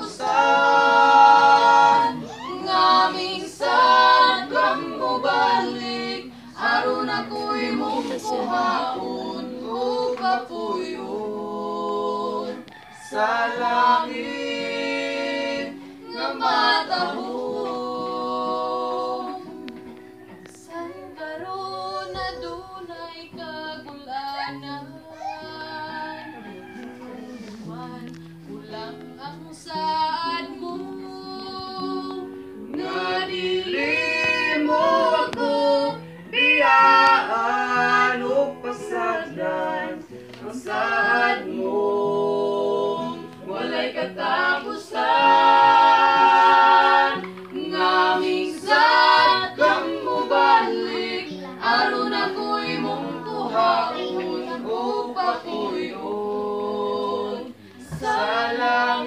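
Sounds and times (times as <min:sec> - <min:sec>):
group singing a hymn in harmony: 0:00.0 - 0:59.0.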